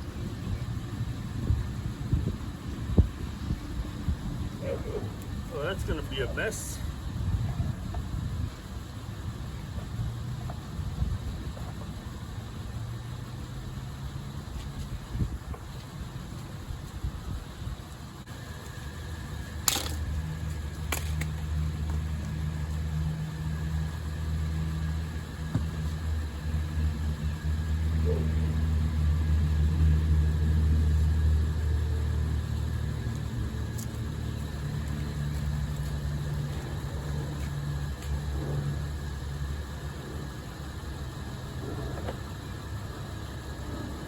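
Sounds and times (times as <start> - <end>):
low motor drone: 0.0 - 44.0.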